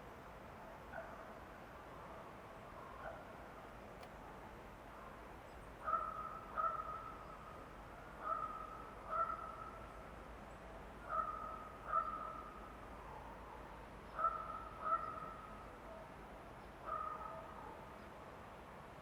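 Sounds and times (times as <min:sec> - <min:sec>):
faint forest background: 0:00.0 - 0:19.0.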